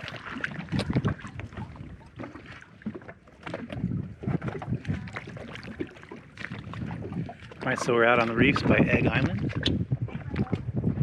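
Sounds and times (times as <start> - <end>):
water slapping against boat hull: 0.0 - 11.0
wind on microphone: 0.0 - 11.0.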